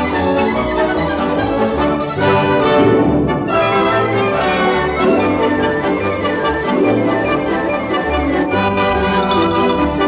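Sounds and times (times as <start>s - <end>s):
orchestral music with held notes: 0.0s - 10.0s.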